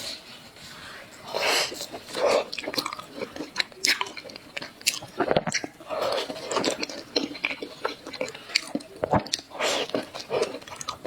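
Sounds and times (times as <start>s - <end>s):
person chewing food: 1.2s - 11.0s
mouth clicks and smacks: 1.4s - 11.0s.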